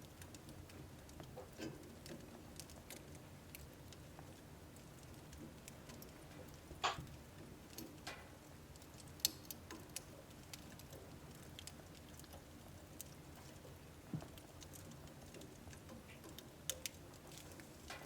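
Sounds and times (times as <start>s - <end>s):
wood crackling and popping: 0.0s - 18.0s.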